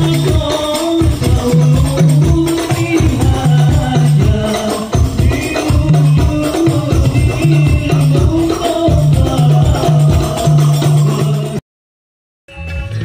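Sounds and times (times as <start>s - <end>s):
frame drums: 0.0s - 11.6s
group of voices singing: 0.0s - 11.6s
jingling percussion: 0.0s - 11.6s.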